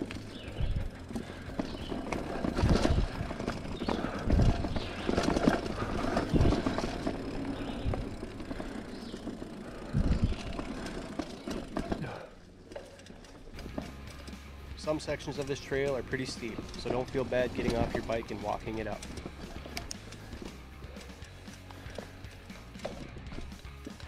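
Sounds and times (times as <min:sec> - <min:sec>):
bike rattling: 0:00.0 - 0:24.0
bike tyres on dirt: 0:00.0 - 0:24.0.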